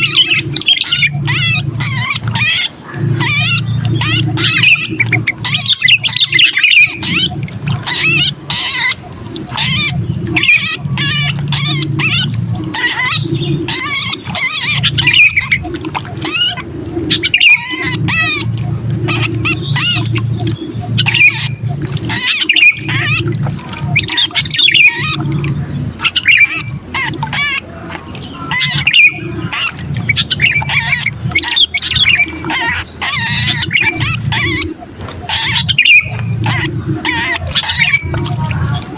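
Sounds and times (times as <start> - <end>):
bird distress calls: 0.0 - 38.9
low steady hum: 0.0 - 38.9.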